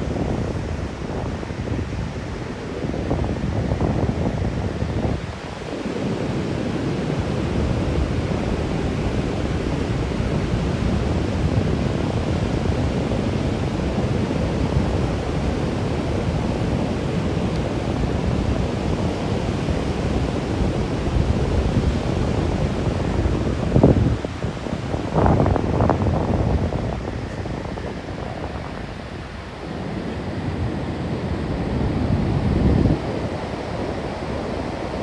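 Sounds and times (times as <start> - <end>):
sea surf: 0.0 - 35.0
wind buffeting microphone: 0.0 - 35.0.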